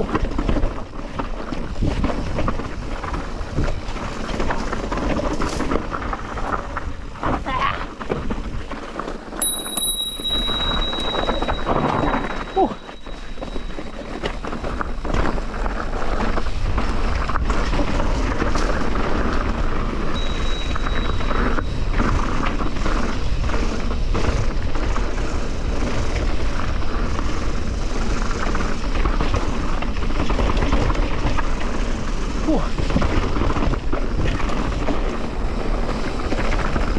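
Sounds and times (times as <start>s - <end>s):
bike rattling and knocking: 0.0s - 36.9s
bike tyre noise: 0.0s - 36.9s.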